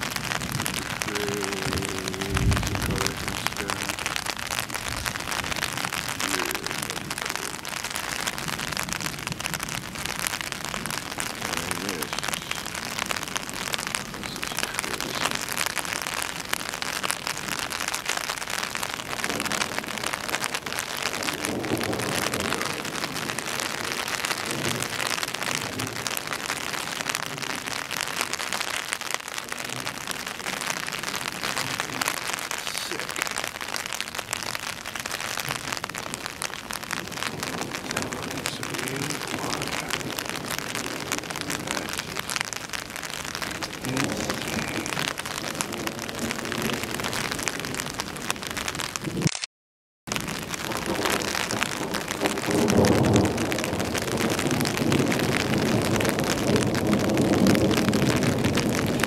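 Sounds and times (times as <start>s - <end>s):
heavy rain falling: 0.0s - 49.4s, 50.1s - 59.0s.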